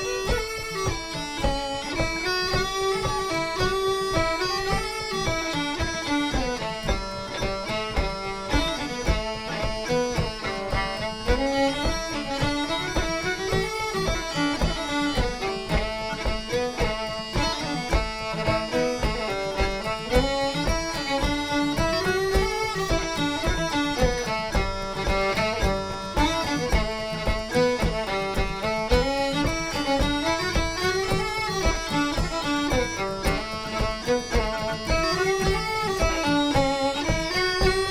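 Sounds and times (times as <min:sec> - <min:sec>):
fiddle melody: 0:00.0 - 0:37.9
flute melody: 0:00.0 - 0:37.9
frame drum beat: 0:00.0 - 0:37.9
guitar: 0:00.0 - 0:37.9.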